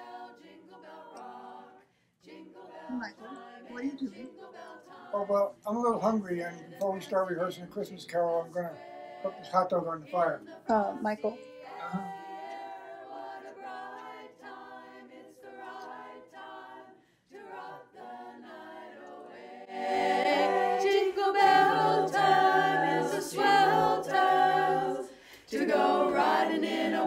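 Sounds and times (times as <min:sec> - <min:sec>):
a cappella group singing: 0:00.0 - 0:27.0.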